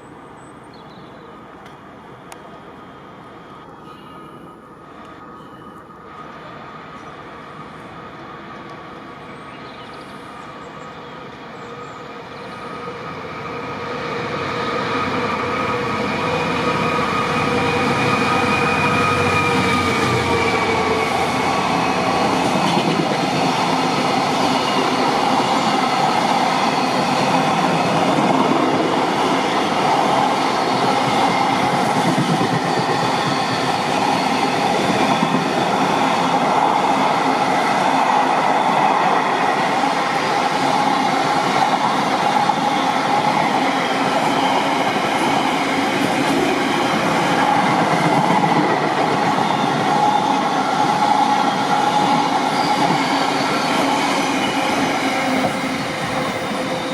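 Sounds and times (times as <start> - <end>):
train wheels on rails: 10.0 - 56.9.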